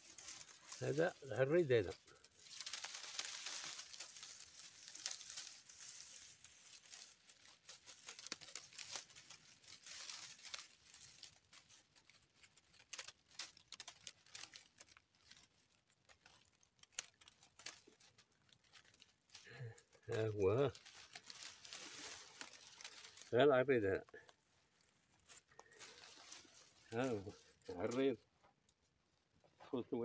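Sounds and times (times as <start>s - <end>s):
dry grass rustling and crackling: 0.0s - 30.0s.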